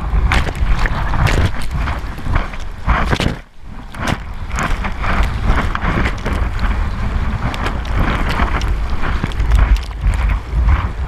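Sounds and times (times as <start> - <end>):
whitewater rushing and splashing: 0.0 - 11.0.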